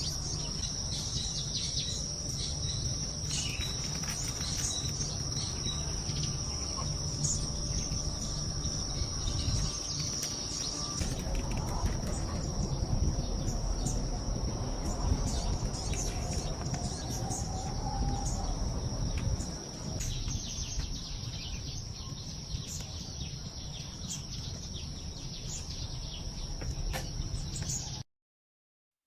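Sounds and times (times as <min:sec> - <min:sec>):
wind and waves rumble: 0:00.0 - 0:24.0
crickets trilling: 0:00.0 - 0:28.0
faint insect chirps: 0:00.0 - 0:28.0.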